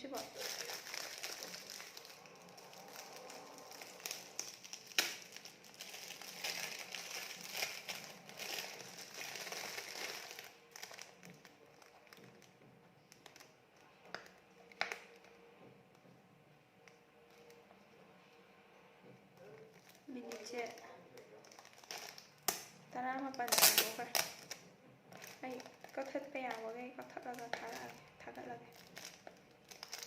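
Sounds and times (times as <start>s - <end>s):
gift wrapping crinkling: 0.0s - 15.3s, 19.4s - 30.0s.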